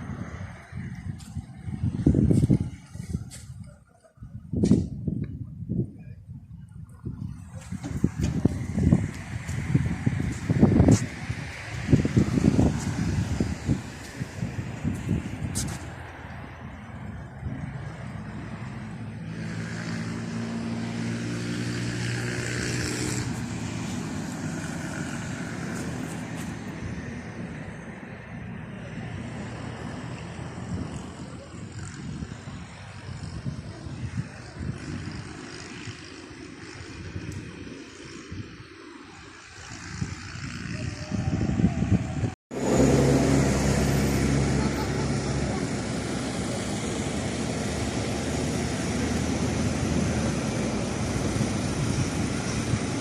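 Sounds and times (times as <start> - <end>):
vehicle passing by: 0.0 - 3.8, 6.9 - 53.0.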